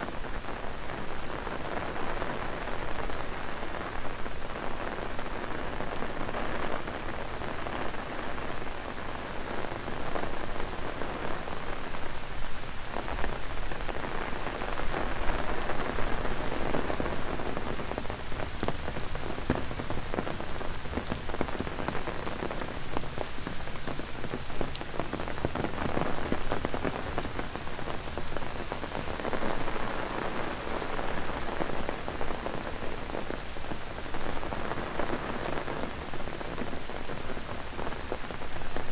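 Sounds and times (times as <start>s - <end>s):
heavy rain drumming on umbrella: 0.0s - 38.9s
steady high hiss: 0.0s - 38.9s.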